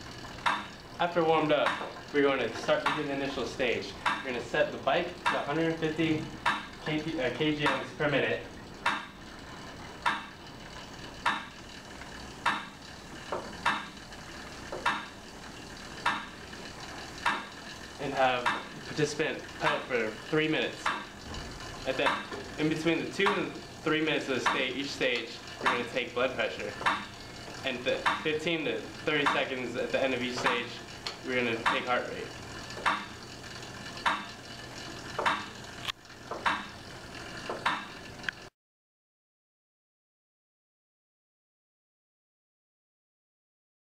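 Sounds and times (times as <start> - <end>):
exercise bike swishing: 0.0 - 38.5
flywheel running: 0.0 - 38.5.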